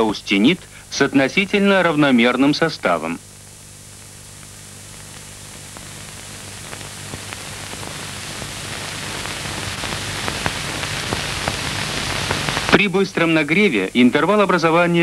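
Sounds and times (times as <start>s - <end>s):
film soundtrack hiss and crackle: 0.0s - 15.0s
low steady hum: 0.0s - 15.0s.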